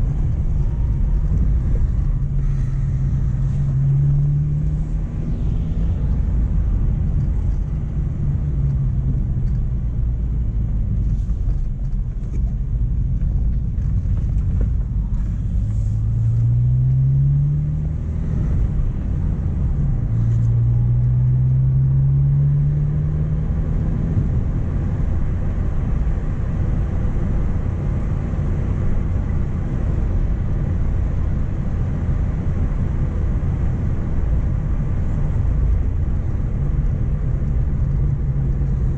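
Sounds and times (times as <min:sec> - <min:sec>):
car engine accelerating: 0:00.0 - 0:38.9
road rumble: 0:00.0 - 0:38.9.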